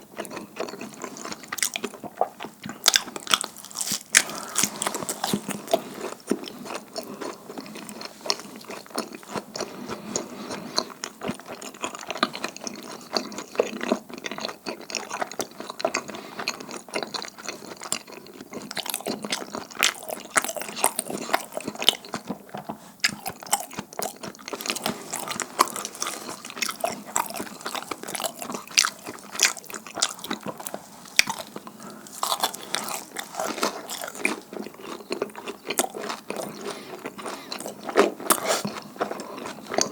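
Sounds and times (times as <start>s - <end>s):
close chewing and biting: 0.0s - 39.9s.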